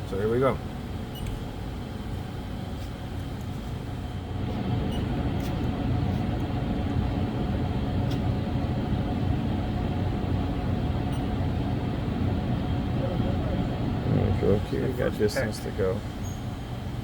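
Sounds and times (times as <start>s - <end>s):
milling machine hum: 0.0s - 17.0s.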